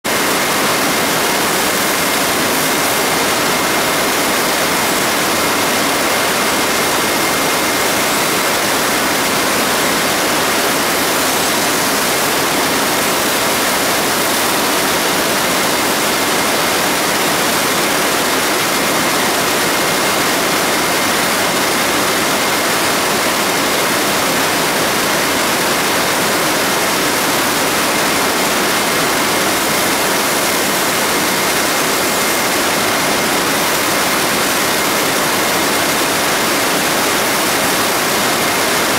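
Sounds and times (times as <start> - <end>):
weaving looms machine noise: 0.1 - 38.9.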